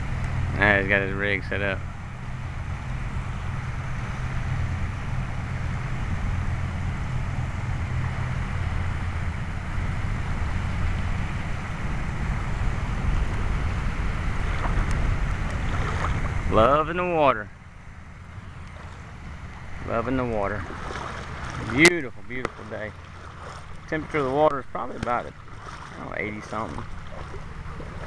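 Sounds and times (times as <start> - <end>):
shallow water washing: 0.0 - 28.0
wind buffeting the microphone: 0.0 - 28.0.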